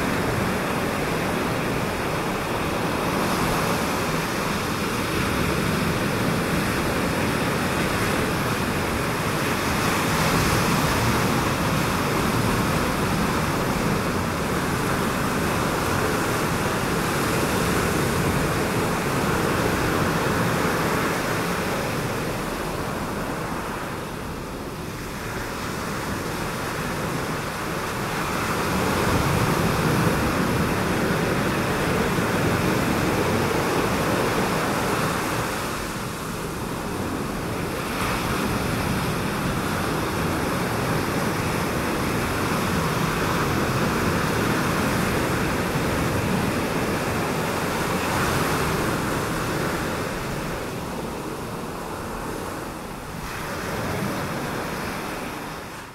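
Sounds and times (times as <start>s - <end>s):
waves breaking on reef: 0.0s - 55.9s.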